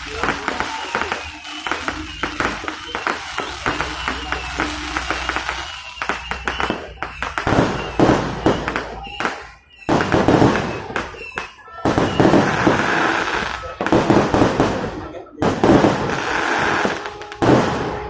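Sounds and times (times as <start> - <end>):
crowd voices: 0.0 - 18.0
fireworks banging: 0.0 - 18.0.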